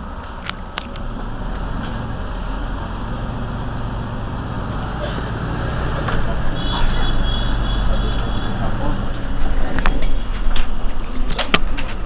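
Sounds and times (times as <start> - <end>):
diesel bus engine idling: 0.0 - 11.3.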